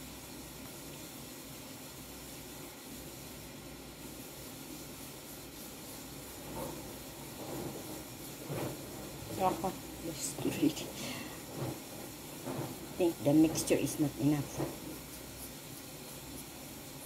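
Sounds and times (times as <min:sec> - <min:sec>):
low background hiss: 0:00.0 - 0:17.0.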